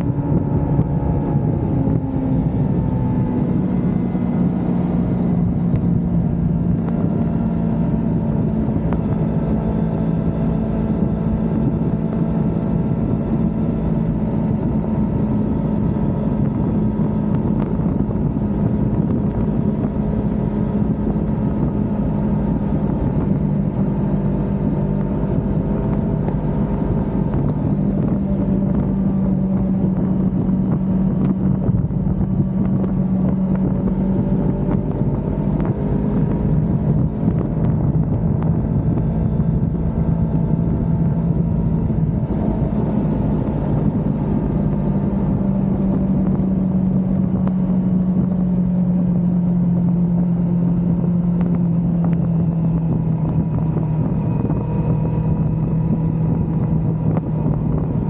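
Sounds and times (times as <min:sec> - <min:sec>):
constant rushing noise: 0:00.0 - 0:58.0
motorcycle engine cruising: 0:00.0 - 0:58.0.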